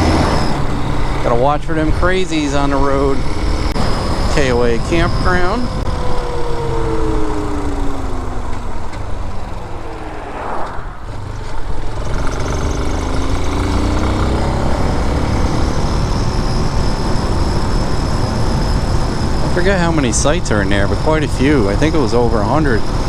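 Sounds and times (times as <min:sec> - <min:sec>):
dirt bike engine: 0:00.0 - 0:23.0.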